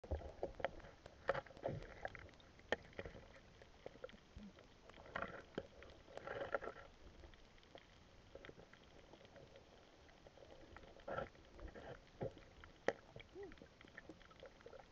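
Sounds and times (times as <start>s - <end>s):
water splashing and sloshing: 0.0s - 14.9s.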